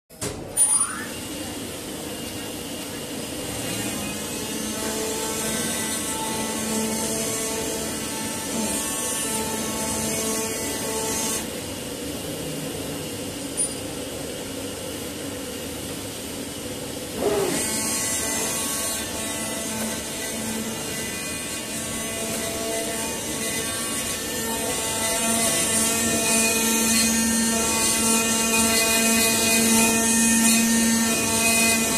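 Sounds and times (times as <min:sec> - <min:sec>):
cutting machine buzzing whir: 0:00.8 - 0:11.6, 0:17.1 - 0:31.9.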